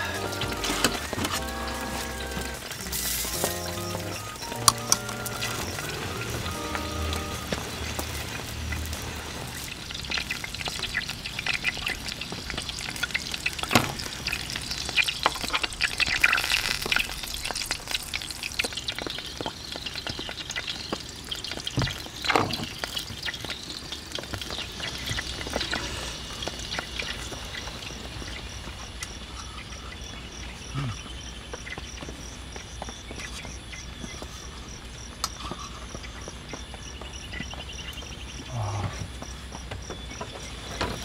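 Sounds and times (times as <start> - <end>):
crackling sizzle-like hiss: 0.0 - 41.0.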